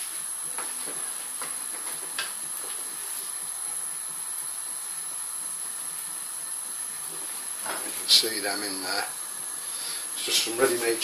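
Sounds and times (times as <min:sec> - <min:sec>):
gas hob hissing: 0:00.0 - 0:11.0.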